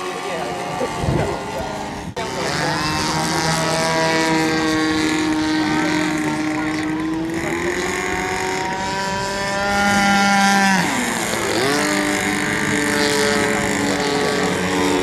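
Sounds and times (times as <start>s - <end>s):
model aircraft motor running: 0.0s - 15.0s.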